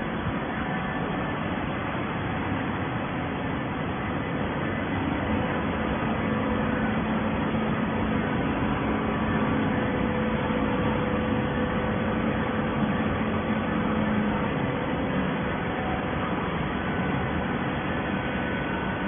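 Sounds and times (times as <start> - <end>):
hydraulic baler humming: 0.0 - 19.0.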